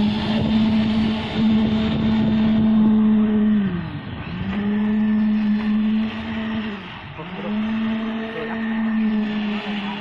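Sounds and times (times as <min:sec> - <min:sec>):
vibrator motor humming: 0:00.0 - 0:10.0.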